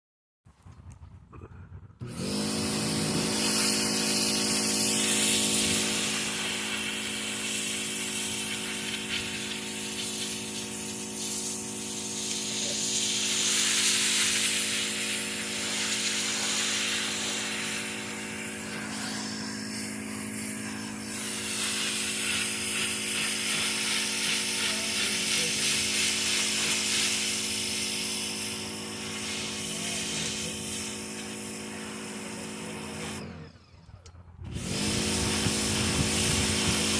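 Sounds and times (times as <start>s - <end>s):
pressure washer hum: 0.6s - 36.9s
water jet hissing: 2.1s - 33.4s, 34.6s - 36.9s.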